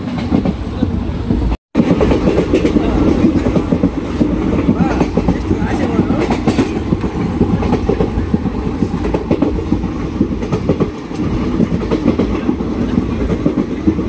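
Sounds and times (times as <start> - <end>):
train rumble inside coach: 0.0 - 14.0
wheels clacking over rail joints: 1.8 - 14.0.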